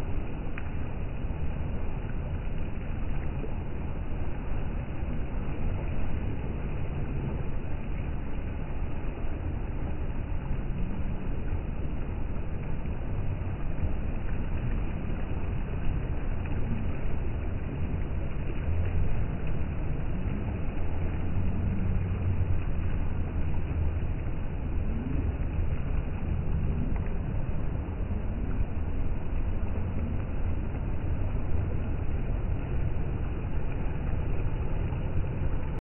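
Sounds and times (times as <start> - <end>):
waves washing onto beach: 0.0 - 35.8.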